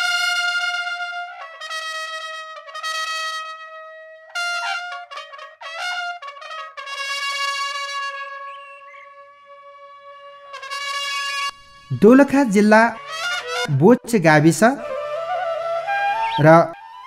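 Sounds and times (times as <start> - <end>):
brass fanfare melody: 0.0 - 16.2.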